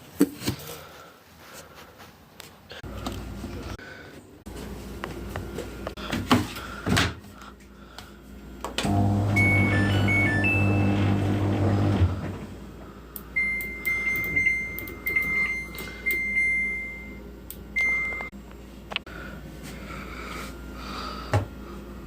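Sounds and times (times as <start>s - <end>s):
washing machine humming: 2.9s - 22.0s.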